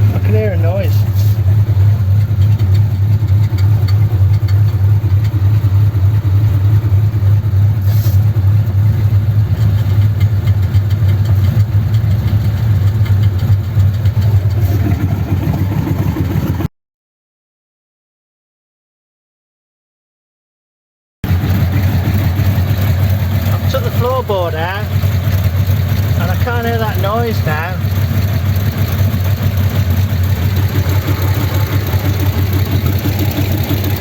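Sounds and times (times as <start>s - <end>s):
car engine idling: 0.0s - 16.7s, 21.2s - 34.0s.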